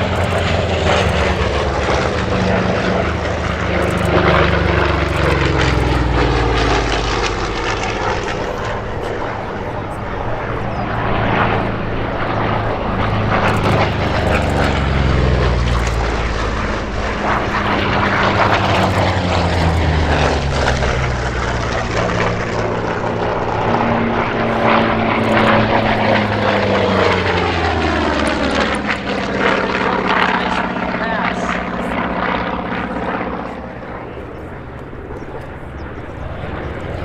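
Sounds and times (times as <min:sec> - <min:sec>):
propeller aircraft flying past: 0:00.0 - 0:37.0.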